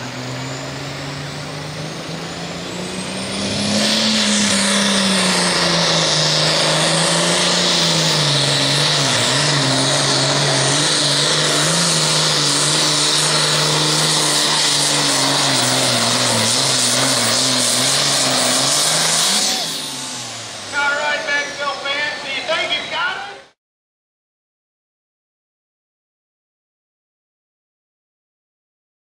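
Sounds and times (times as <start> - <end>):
tractor diesel engine at full throttle: 0.0 - 23.6.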